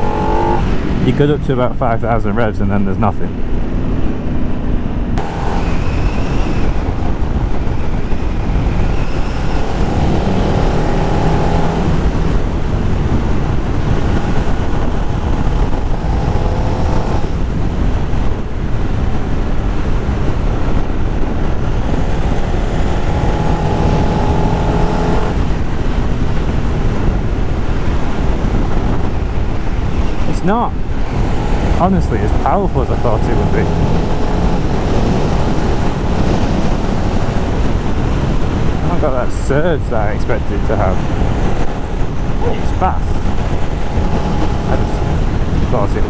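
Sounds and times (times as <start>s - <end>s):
motorcycle engine accelerating: 0.0s - 2.1s, 3.0s - 46.0s
wind noise on microphone: 0.0s - 2.2s, 3.3s - 46.0s.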